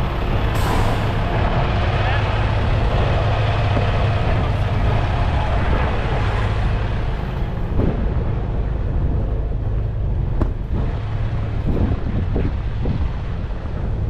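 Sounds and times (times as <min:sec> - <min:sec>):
vehicle engines idling: 0:00.0 - 0:11.9
wind buffeting microphone: 0:00.0 - 0:14.0.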